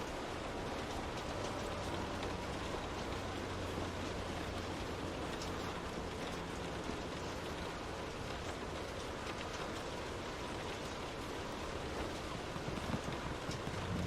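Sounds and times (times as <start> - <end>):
rain on a window pane: 0.0 - 14.0.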